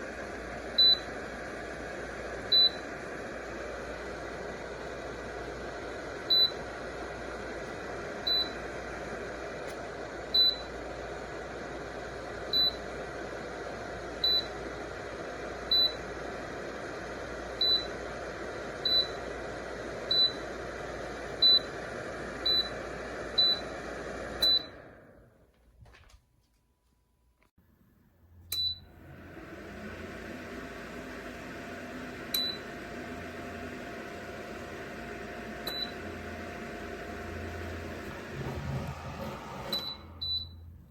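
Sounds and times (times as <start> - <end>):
heater fan whooshing: 0.0 - 25.5, 28.8 - 40.9.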